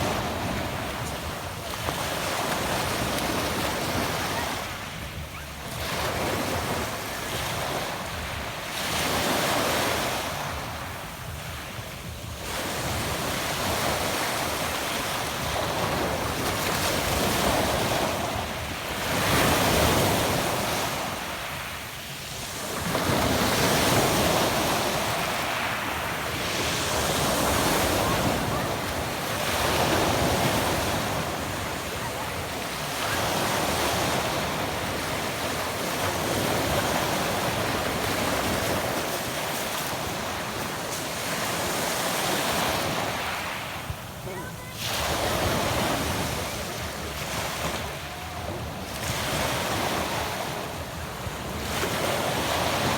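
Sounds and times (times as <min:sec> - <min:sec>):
waves washing onto pebble beach: 0:00.0 - 0:52.9.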